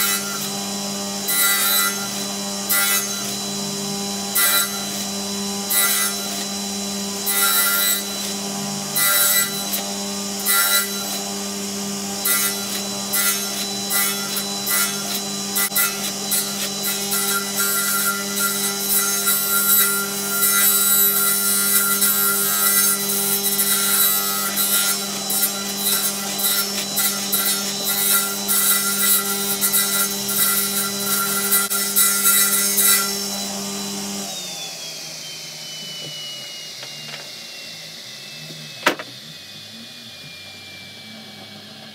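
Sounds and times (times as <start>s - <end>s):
saw blade cutting wood: 0.0s - 34.6s, 38.4s - 41.9s
table saw humming and whining: 0.0s - 41.9s.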